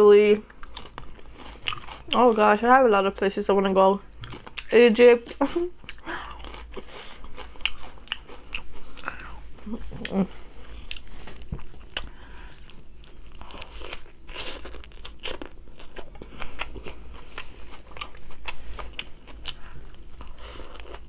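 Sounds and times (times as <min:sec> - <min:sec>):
chewing crunchy food: 0:00.4 - 0:02.7, 0:04.1 - 0:21.0.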